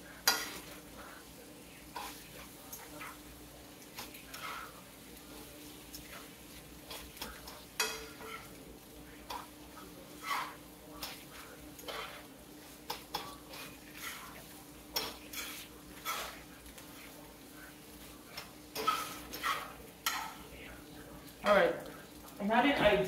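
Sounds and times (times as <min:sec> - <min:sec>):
utensil scraping a frying pan: 0:00.0 - 0:01.3, 0:01.9 - 0:21.4
faint sizzle of frying: 0:00.0 - 0:23.0.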